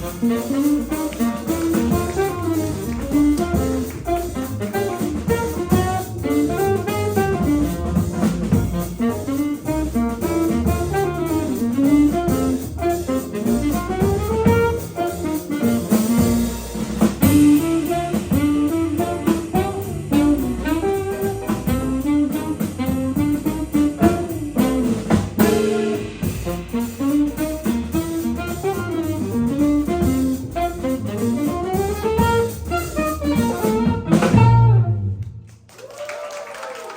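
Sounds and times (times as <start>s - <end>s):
busy drums: 0.0s - 36.9s
jazz quintet playing fast: 0.0s - 36.9s.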